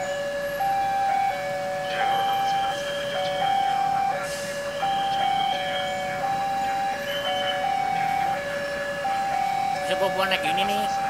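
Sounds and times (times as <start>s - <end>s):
level crossing alarm tones: 0.0s - 11.0s.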